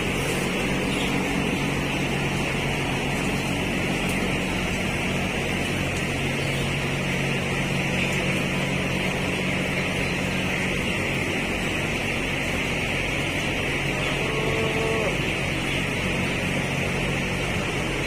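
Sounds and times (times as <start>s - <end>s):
chicks peeping: 0.0s - 18.0s
ventilation fans droning: 0.0s - 18.0s.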